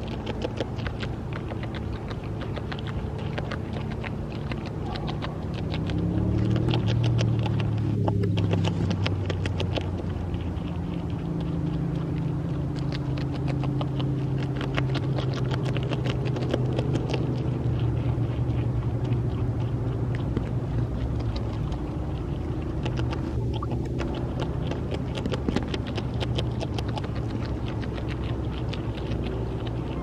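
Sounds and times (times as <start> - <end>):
beaver chewing leaves: 0.0 - 30.0
steady low hum: 0.0 - 30.0.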